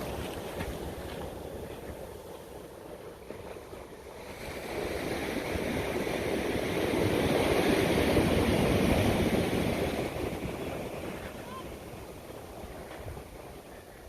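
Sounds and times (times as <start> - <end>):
ocean wave breaking: 0.0 - 14.0.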